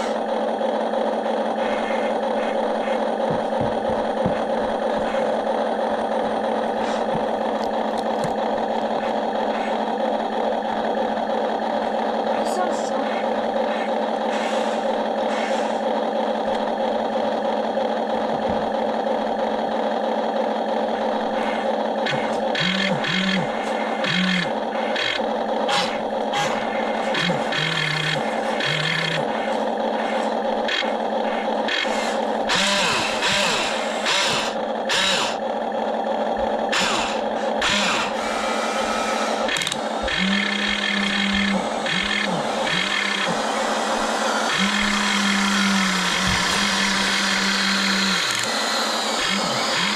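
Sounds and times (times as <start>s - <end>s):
toy electric motors whining: 0.0s - 49.9s.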